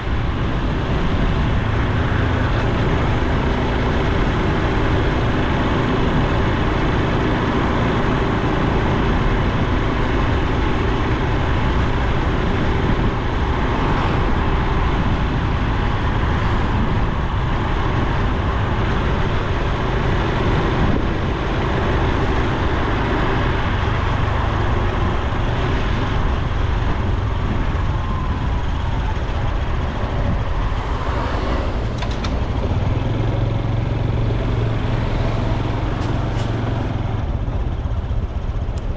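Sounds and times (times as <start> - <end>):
motorcycle engine running: 0.0 - 38.9
road noise: 0.0 - 38.9
wind noise: 0.0 - 38.9.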